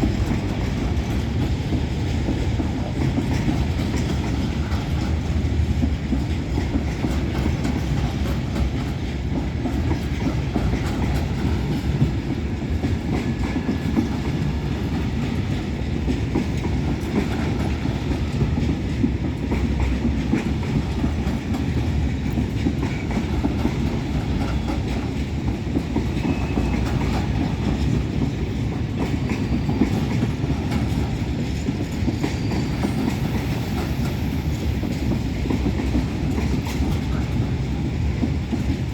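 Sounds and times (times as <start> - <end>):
train rumbling past: 0.0 - 38.9
wheels clattering over rail joints: 0.0 - 38.9.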